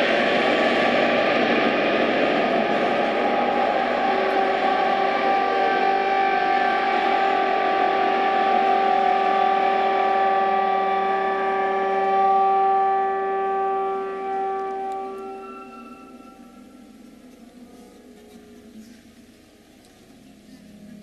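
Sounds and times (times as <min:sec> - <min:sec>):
dense noisy ensemble music: 0:00.0 - 0:21.0
two steady held notes: 0:00.0 - 0:21.0.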